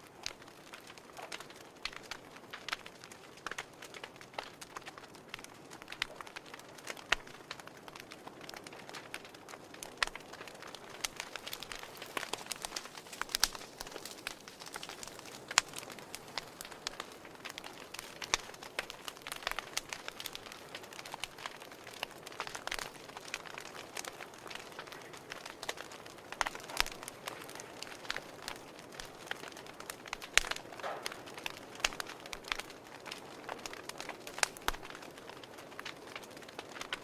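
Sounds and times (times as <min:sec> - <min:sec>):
fire crackling: 0:00.0 - 0:37.0.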